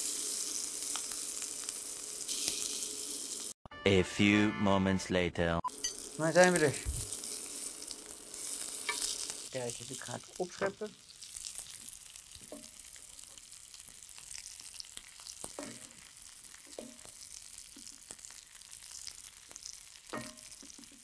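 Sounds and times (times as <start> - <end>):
food sizzling in pans: 0.0 - 3.6, 5.7 - 21.0.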